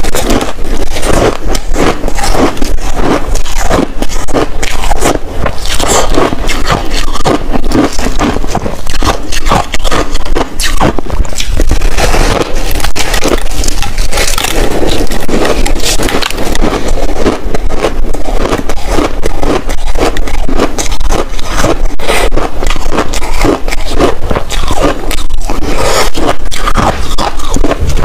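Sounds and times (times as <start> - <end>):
shaved ice crunching: 0.0 - 28.0.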